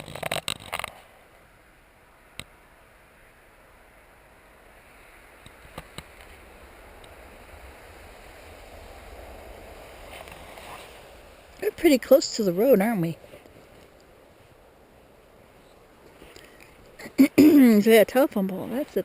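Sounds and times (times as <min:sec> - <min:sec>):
vehicle approaching on road: 0:00.0 - 0:19.0.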